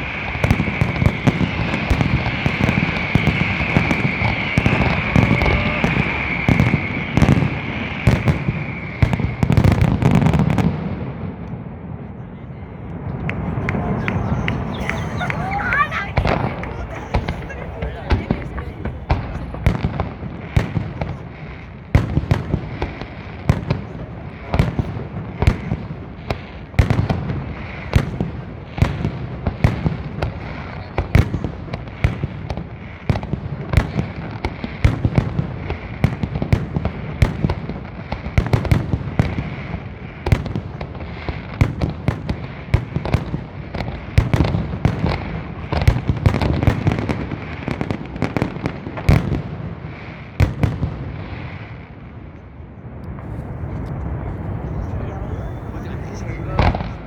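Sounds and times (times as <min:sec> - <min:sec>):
fireworks bangs: 0:00.0 - 0:12.0, 0:12.7 - 0:57.0
fireworks rumble and crackle: 0:00.0 - 0:57.0.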